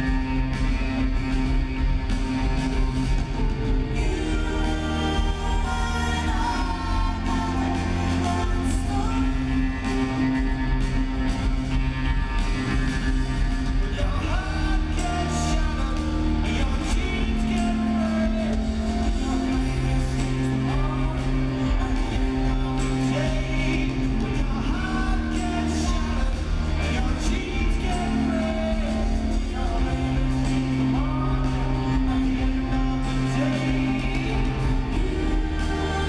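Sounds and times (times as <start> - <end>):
live rock band playing: 0.0 - 36.0
person singing: 0.0 - 36.0.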